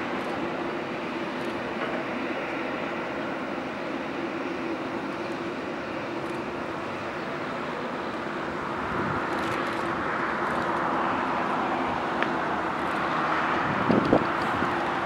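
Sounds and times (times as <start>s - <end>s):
jet engines at taxi idle: 0.0s - 15.0s.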